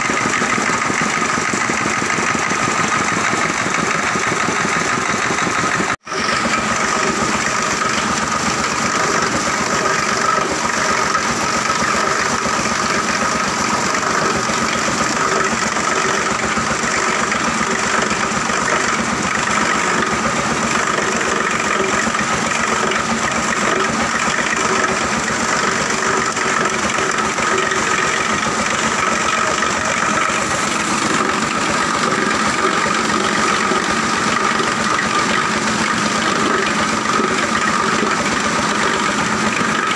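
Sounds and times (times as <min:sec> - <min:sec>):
recycling machinery running: 0:00.0 - 0:39.9.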